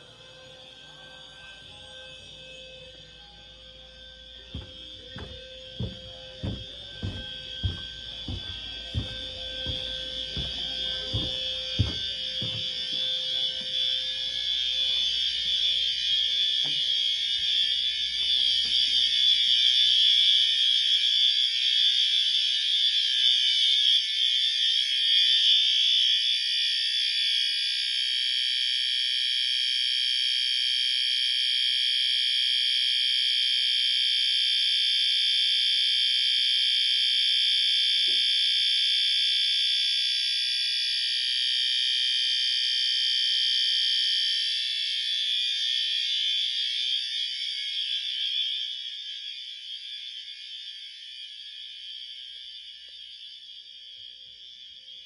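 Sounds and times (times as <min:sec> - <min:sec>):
fire alarm sounding: 0:00.0 - 0:55.0.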